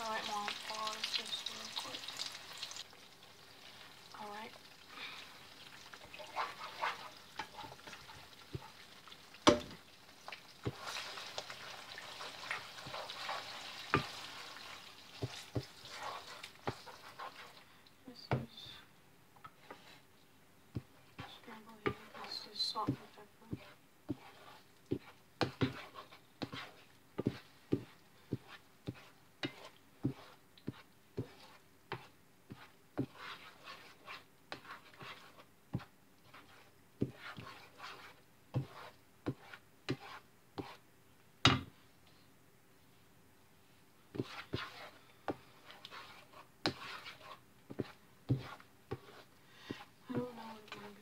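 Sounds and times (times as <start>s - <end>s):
spatula scraping frying pan: 0.0s - 2.8s, 4.7s - 17.6s, 21.1s - 40.8s, 44.1s - 51.0s.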